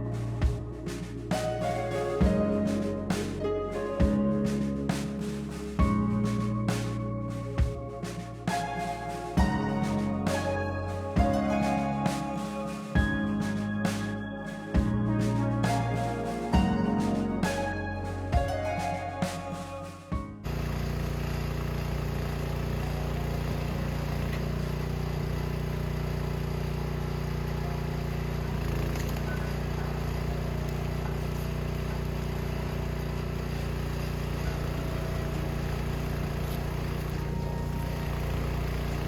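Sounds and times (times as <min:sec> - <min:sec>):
engine droning steadily: 0:00.0 - 0:39.0.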